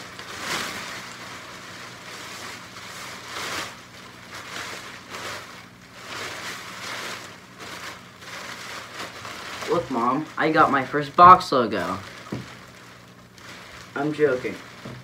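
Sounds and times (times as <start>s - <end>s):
plastic poncho rustling: 0.0s - 15.0s.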